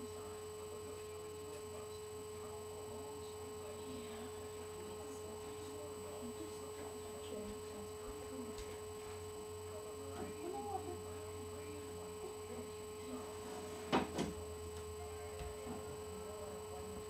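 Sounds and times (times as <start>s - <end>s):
electrical hum with high tone: 0.0s - 17.0s.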